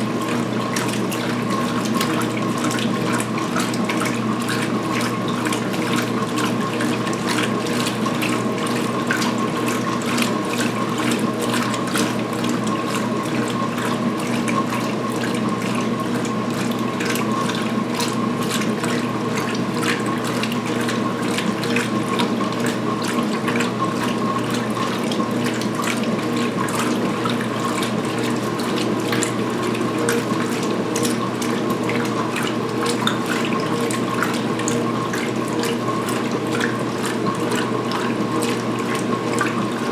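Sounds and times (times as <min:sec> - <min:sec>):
washing machine motor hum: 0:00.0 - 0:39.9
water sloshing in tub: 0:00.0 - 0:39.9.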